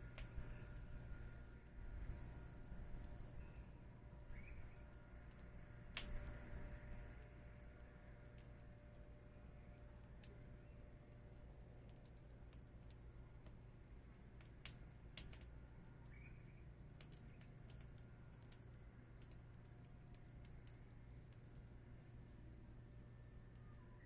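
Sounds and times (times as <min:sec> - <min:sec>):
firewood crackling: 0:00.0 - 0:24.0
low steady hum: 0:00.0 - 0:24.0.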